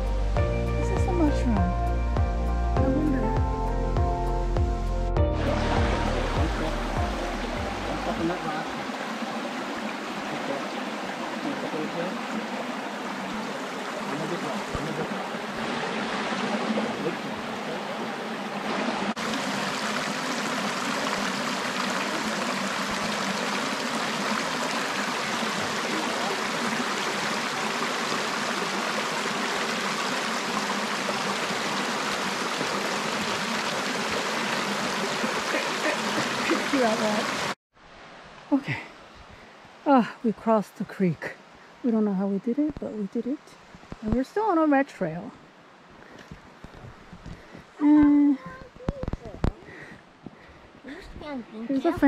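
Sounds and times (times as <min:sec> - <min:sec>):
creek water rushing over stones: 0:05.2 - 0:52.0.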